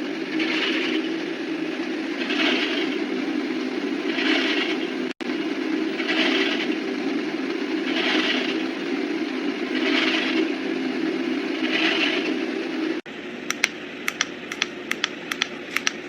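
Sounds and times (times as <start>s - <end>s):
treadmill motor and belt hum: 0.0s - 16.0s.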